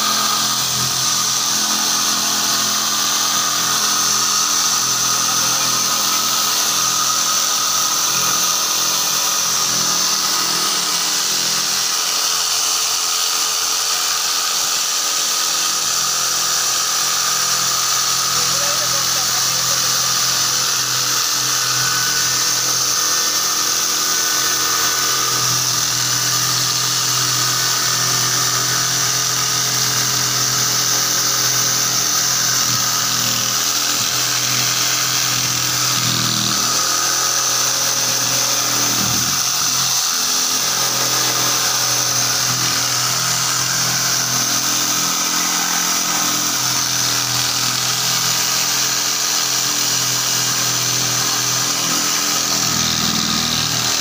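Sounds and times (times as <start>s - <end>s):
electric jigsaw cutting wood: 0.0s - 54.0s.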